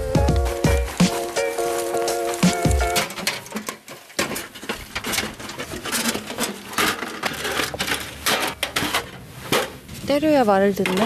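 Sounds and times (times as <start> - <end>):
metal panels clinking and rattling: 0.5 - 9.8, 10.4 - 11.0.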